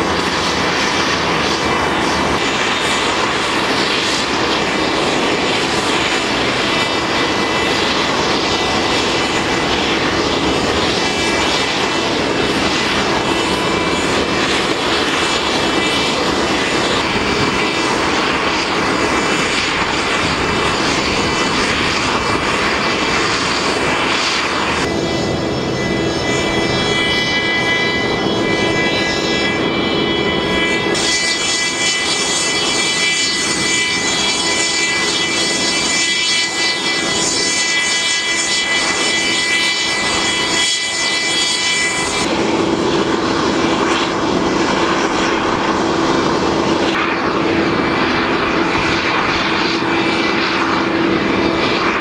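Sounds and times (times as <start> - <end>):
aircraft turbine whine: 0.0 - 52.0.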